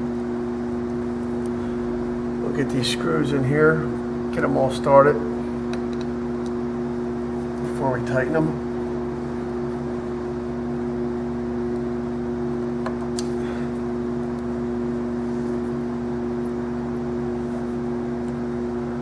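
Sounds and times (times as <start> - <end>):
machine hum with low rumble: 0.0 - 19.0.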